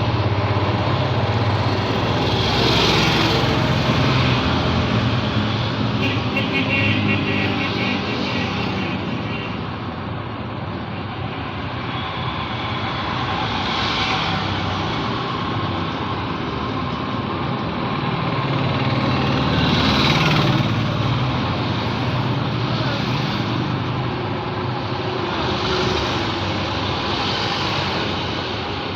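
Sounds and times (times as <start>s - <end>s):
road traffic: 0.0s - 28.9s
vehicles passing by: 0.0s - 28.9s.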